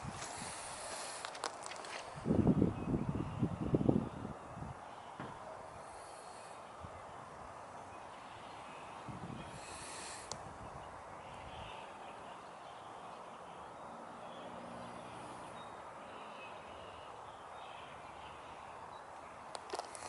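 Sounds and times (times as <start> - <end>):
distant bird calls: 0.0 - 20.0
faint steady hiss: 0.0 - 20.0.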